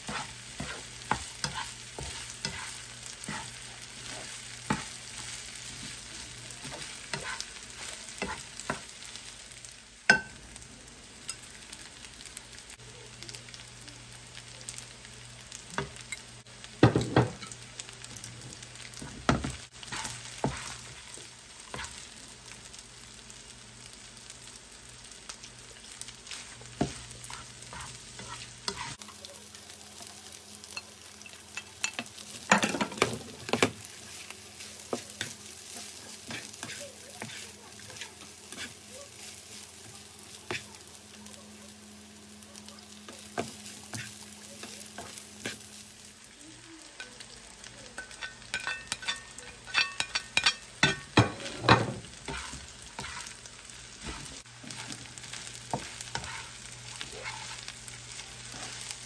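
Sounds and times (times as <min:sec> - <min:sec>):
fried rice sizzling in a pan: 0:00.0 - 0:59.0.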